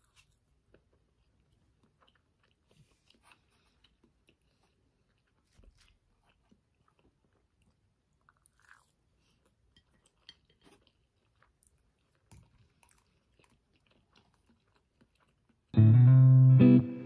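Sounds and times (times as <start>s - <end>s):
chewing soft food close-up: 0.0s - 15.8s.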